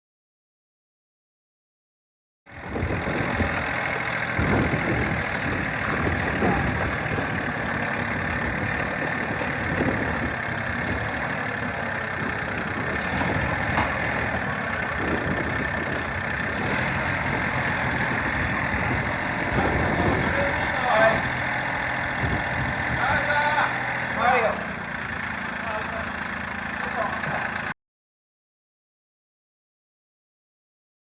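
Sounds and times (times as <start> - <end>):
diesel engine running: 2.5 - 27.8.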